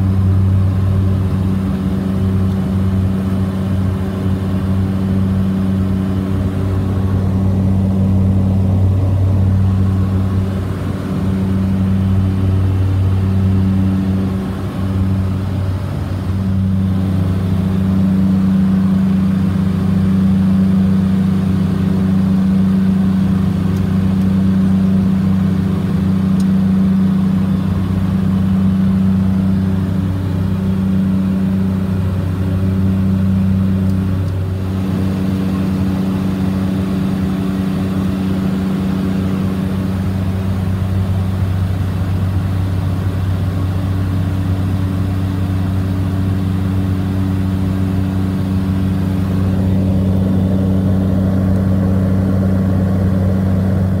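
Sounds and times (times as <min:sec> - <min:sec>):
turboprop cabin drone: 0:00.0 - 0:54.0.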